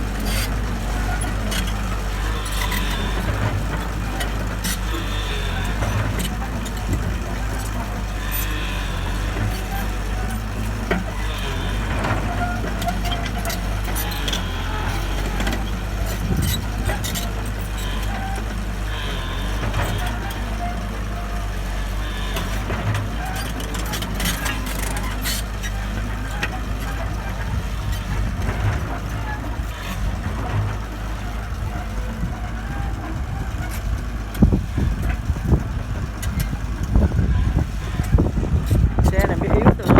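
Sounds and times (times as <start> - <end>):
heavy machine engine humming: 0.0 - 39.9.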